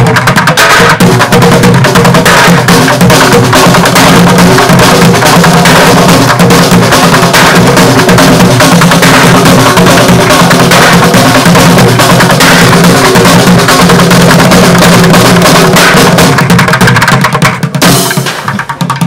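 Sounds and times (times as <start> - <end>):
drumming on plastic buckets: 0.0 - 19.0.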